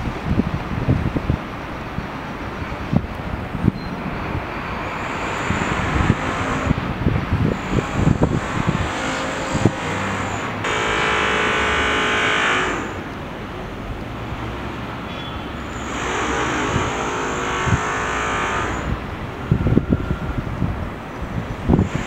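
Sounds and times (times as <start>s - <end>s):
street traffic rumble: 0.0s - 22.0s
vehicles passing with whine: 0.0s - 22.0s.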